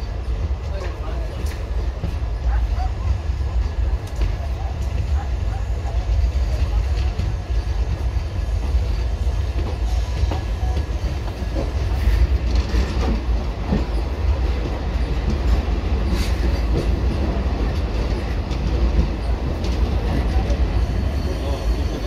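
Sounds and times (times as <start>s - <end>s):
locomotive rumble: 0.0s - 22.0s
wheels clanking over rail joints: 0.0s - 22.0s.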